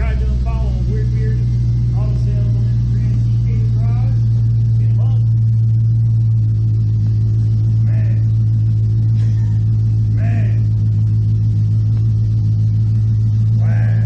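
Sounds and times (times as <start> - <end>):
car engine idling open exhaust: 0.0 - 14.0.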